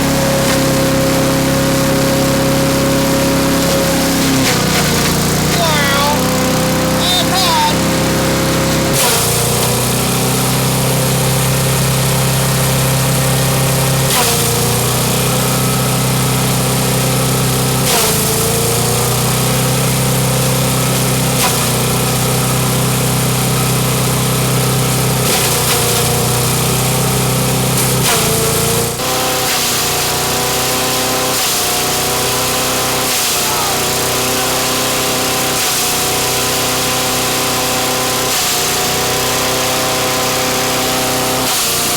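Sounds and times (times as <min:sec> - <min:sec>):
chipper-shredder engine running: 0:00.0 - 0:41.9.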